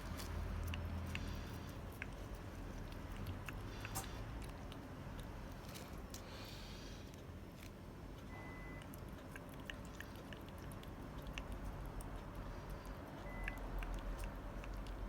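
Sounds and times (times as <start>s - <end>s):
cat licking and eating: 0.0s - 15.0s.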